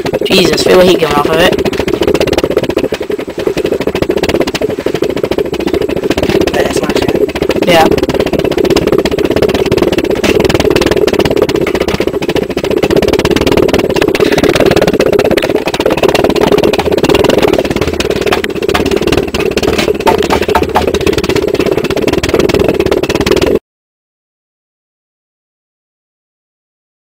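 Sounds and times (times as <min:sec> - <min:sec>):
pulse jet droning: 0:00.0 - 0:23.6.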